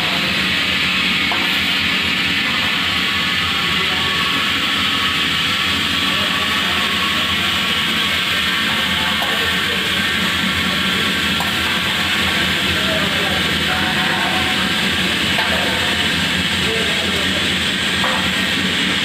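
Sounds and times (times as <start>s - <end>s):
steam hissing roar: 0.0s - 19.0s.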